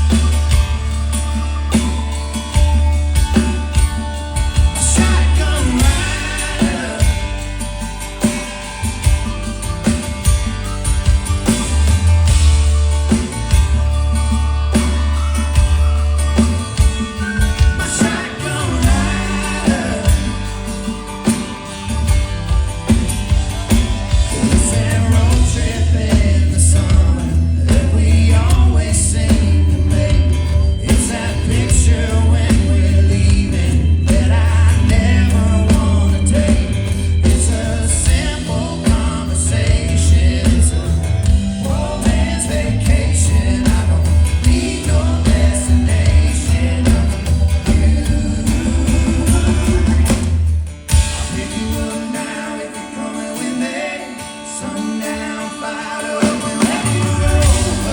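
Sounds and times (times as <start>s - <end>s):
group vocal harmonies: 0.0s - 10.3s, 11.1s - 57.9s
folk-rock band playing: 0.0s - 57.9s.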